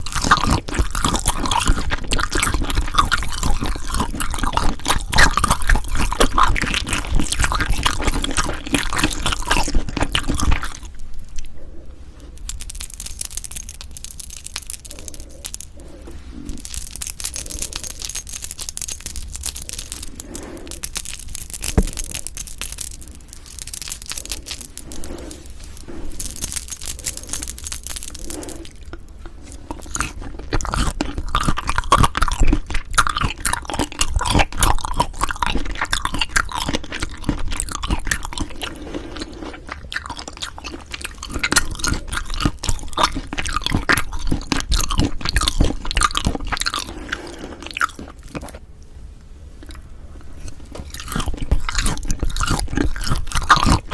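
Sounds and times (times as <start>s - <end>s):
loud food crackling: 0.0s - 11.6s, 12.3s - 48.6s, 50.4s - 53.9s
soft wet eating sounds: 0.0s - 53.9s.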